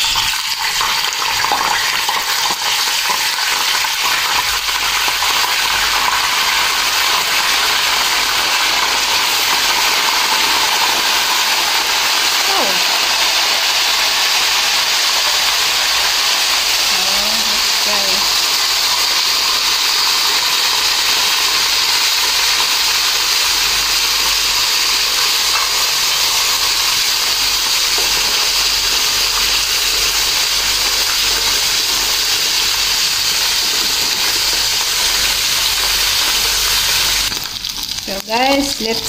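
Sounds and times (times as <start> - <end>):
fish sizzling in hot oil: 0.0 - 39.0.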